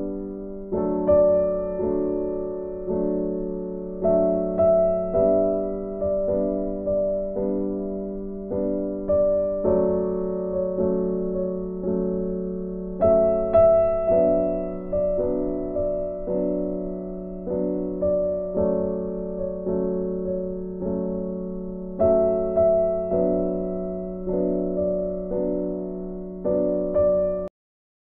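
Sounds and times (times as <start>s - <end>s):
gentle piano tune: 0.0s - 27.5s.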